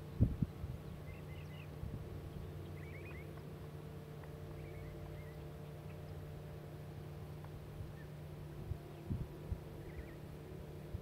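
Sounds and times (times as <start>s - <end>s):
small birds twittering: 0.0s - 11.0s
steady low hum: 0.0s - 11.0s.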